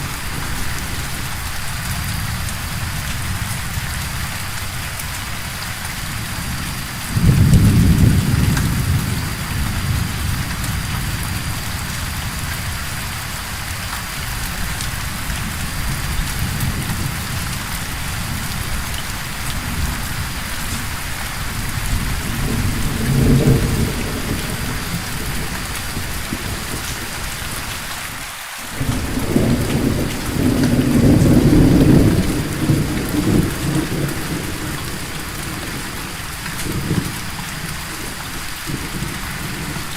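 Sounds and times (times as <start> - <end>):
thunder rumbling: 0.0 - 13.2, 14.2 - 27.9, 28.7 - 39.9
steady rain: 0.0 - 39.9.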